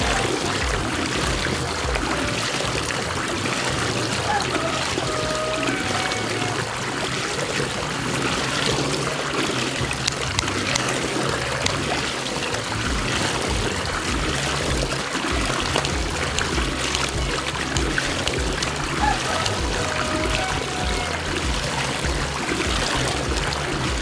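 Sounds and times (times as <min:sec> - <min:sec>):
music bass line: 0:00.0 - 0:24.0
water rushing down a drain: 0:00.0 - 0:24.0.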